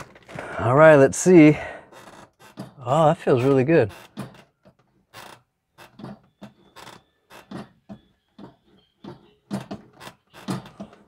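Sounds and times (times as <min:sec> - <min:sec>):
throttle linkage creaking and clicking: 0:00.0 - 0:11.0.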